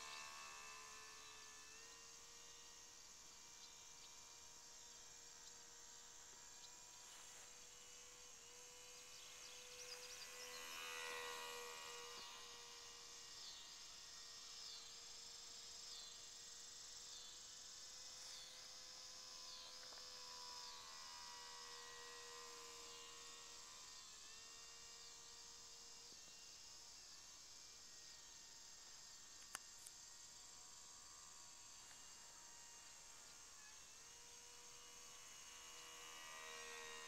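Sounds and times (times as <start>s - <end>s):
model plane electric motor whine: 0.0s - 37.0s.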